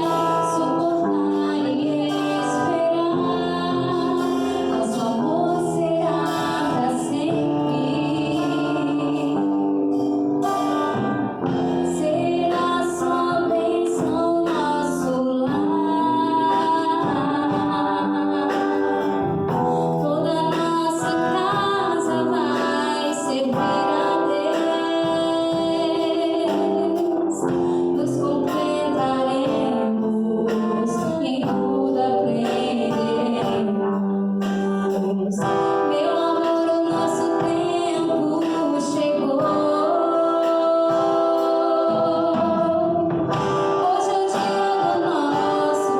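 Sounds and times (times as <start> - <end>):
song with singing: 0.0 - 45.9.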